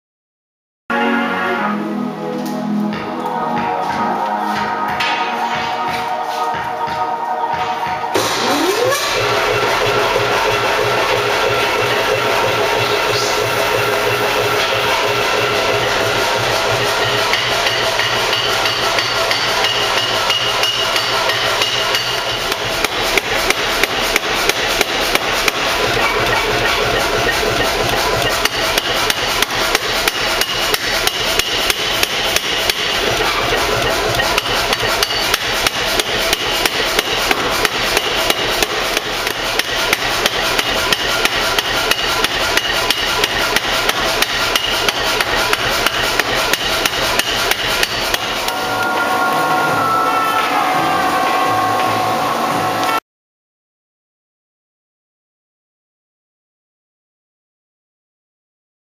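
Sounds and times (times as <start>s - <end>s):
machine humming: 1.7s - 53.0s
power hammer blows: 3.9s - 53.0s.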